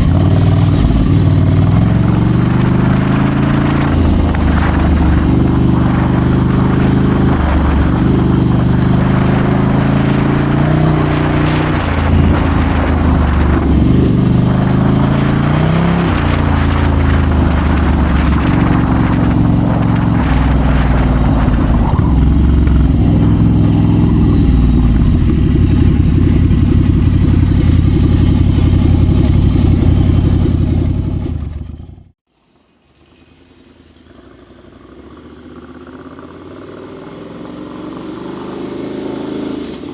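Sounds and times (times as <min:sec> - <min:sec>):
quiet engine sound: 0:00.0 - 0:32.0
motorcycle engine changing gear: 0:00.0 - 0:32.1.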